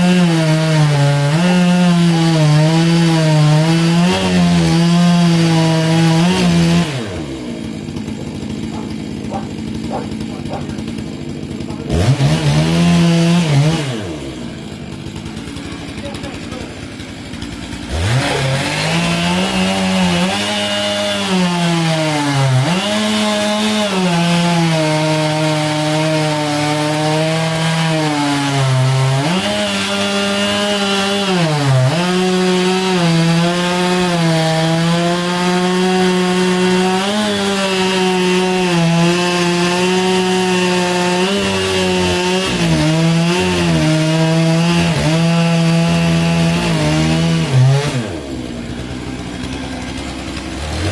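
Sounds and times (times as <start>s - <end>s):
chainsaw cutting through log: 0.0s - 50.9s.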